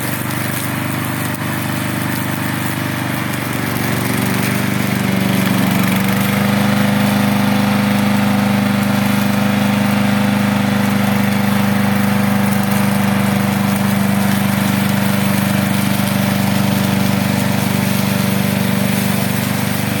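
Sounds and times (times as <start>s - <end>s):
gasoline engine running: 0.0s - 20.0s.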